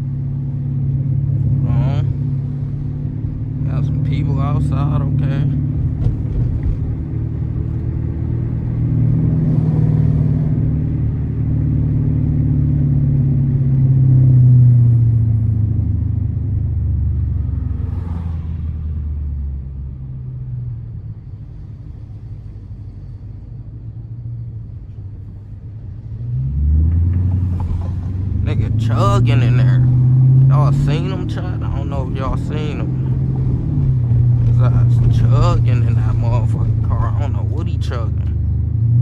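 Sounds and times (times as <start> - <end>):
car engine revving: 0.0 - 23.1, 26.0 - 39.0.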